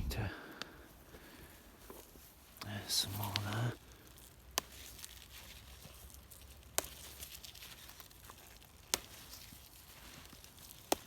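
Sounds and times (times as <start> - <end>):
faint rustle: 0.0 - 11.0.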